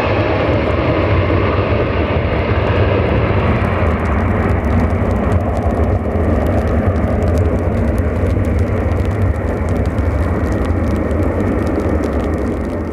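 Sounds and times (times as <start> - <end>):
jet engines at takeoff: 0.0 - 12.9.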